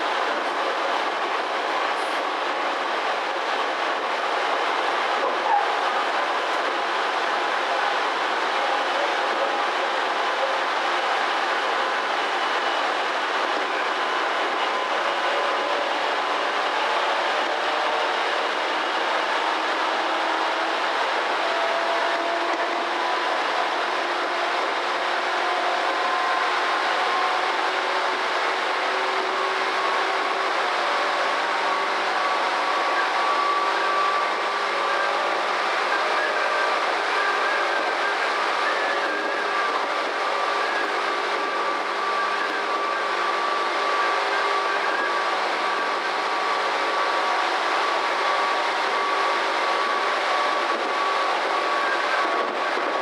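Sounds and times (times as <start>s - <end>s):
train wheel and rail noise: 0.0s - 53.0s.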